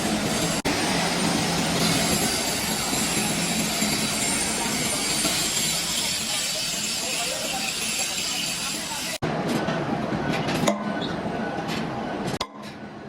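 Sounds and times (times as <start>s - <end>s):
workshop machinery running: 0.0s - 13.0s.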